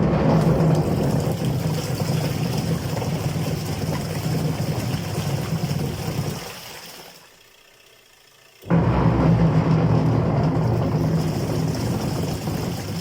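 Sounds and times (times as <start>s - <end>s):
washing machine droning: 0.0s - 13.0s.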